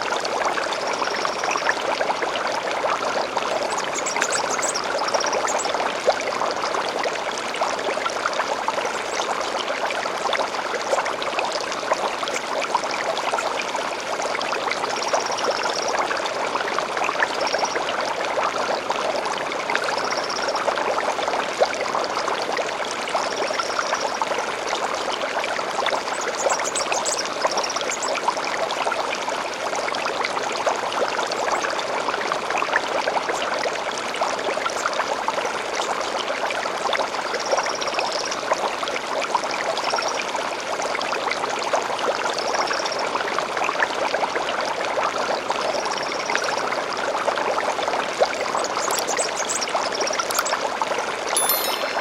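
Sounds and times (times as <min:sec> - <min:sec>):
stream water flowing: 0:00.0 - 0:52.0.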